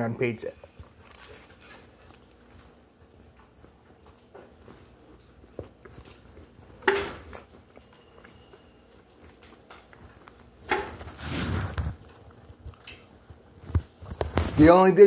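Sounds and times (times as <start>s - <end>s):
person chewing crispy crust: 0.5s - 14.5s.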